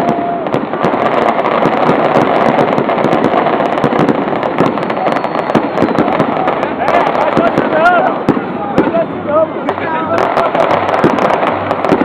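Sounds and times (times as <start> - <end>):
fireworks crackling barrage: 0.0 - 12.0.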